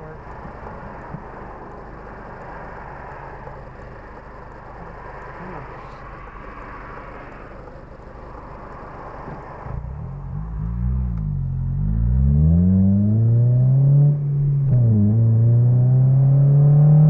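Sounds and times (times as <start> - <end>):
car engine idling and accelerating: 0.0 - 17.0
passing traffic: 0.0 - 17.0.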